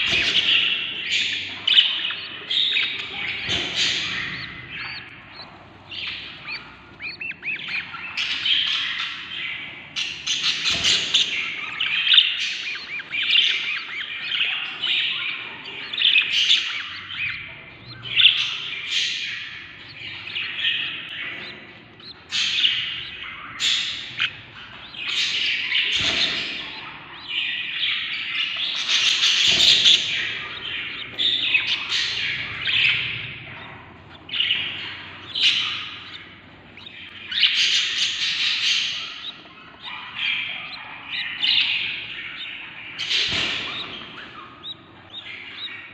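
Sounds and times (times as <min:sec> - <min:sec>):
nestlings chirping and squawking: 0:00.0 - 0:45.9.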